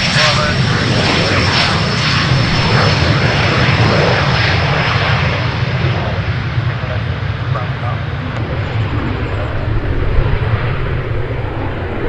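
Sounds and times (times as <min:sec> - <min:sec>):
jet engines roaring: 0:00.0 - 0:12.0
thin high engine whine: 0:00.0 - 0:12.0.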